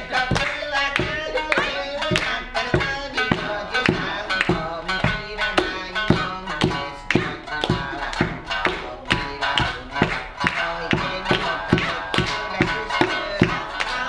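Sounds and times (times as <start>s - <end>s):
plucked shamisen notes: 0.0s - 14.0s.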